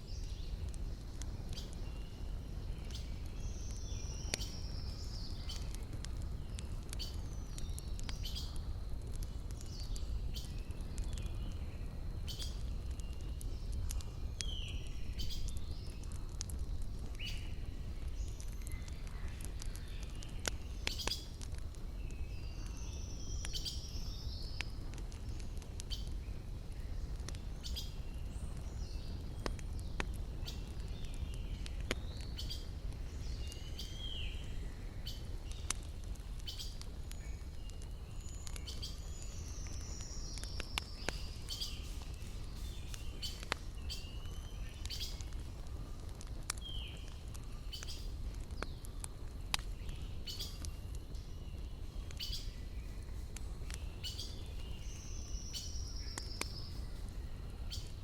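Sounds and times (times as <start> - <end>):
campfire crackling and popping: 0.0 - 58.0
small birds chirping: 0.0 - 58.0.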